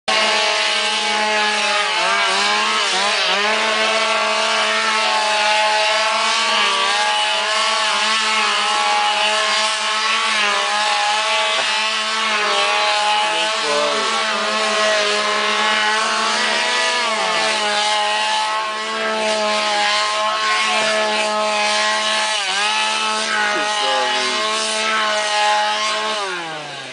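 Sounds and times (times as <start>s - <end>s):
chainsaws at full throttle: 0.1s - 26.9s.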